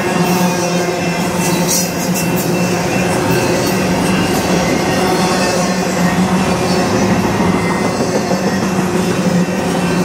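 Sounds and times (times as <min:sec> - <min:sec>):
steel wheels rushing on rail: 0:00.0 - 0:10.0.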